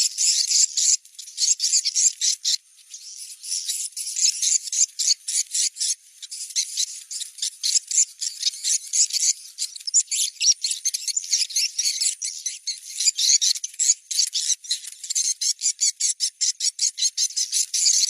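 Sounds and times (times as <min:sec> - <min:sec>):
birds chirping and twittering: 0:00.0 - 0:18.0.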